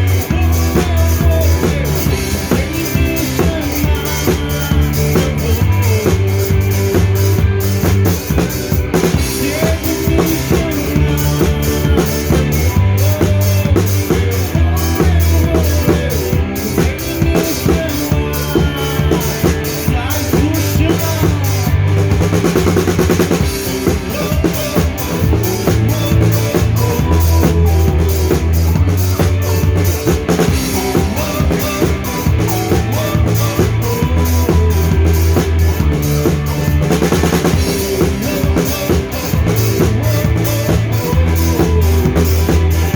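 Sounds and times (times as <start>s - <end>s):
drum kit beat: 0.0s - 42.9s
live band playing: 0.0s - 42.9s.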